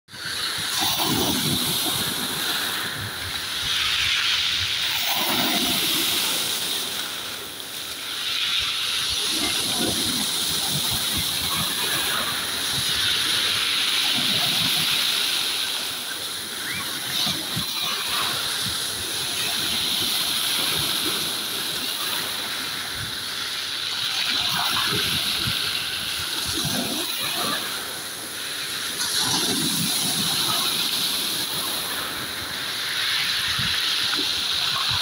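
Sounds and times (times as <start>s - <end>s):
waves washing on pebble beach: 0.2s - 35.0s.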